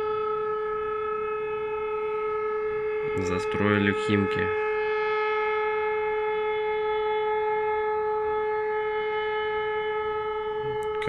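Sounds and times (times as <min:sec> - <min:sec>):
air-raid siren steady tone: 0:00.0 - 0:11.0.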